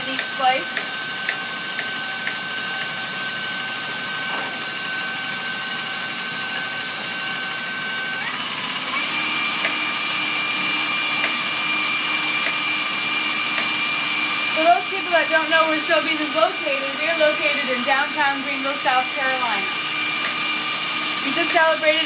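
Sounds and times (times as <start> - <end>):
stand mixer whipping cream: 0.0 - 22.0.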